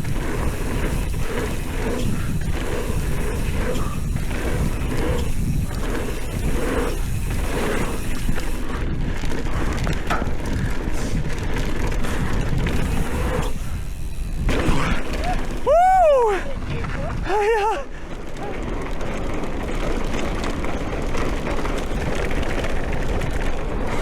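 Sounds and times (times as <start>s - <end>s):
bike rattling: 0.0s - 24.0s
tyres rumbling on dirt: 0.0s - 24.0s
wind noise: 0.0s - 24.0s.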